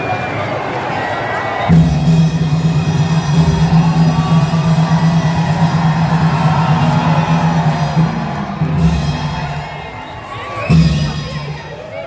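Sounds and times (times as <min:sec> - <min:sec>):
crowd cheering and shouting: 0:00.0 - 0:12.0.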